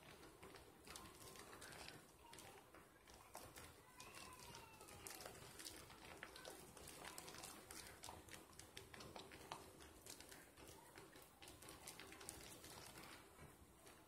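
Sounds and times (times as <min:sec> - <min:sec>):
soap lather squishing between hands: 0:00.0 - 0:14.0.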